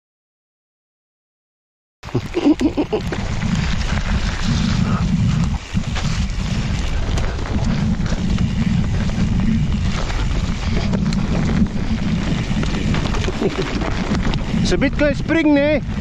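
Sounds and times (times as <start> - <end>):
tyres on wet dirt trail: 2.0 - 16.0
bike knocking and rattling: 2.1 - 16.0
wind buffeting microphone: 2.1 - 16.0.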